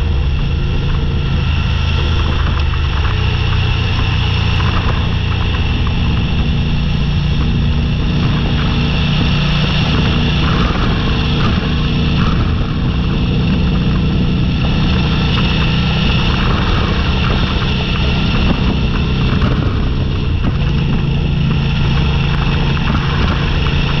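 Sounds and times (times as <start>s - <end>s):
motorcycle engine cruising: 0.0s - 24.0s
rushing noise: 0.0s - 24.0s.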